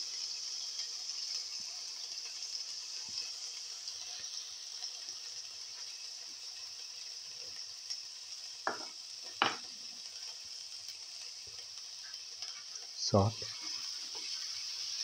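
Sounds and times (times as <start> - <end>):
onion frying in oil: 0.0 - 15.0.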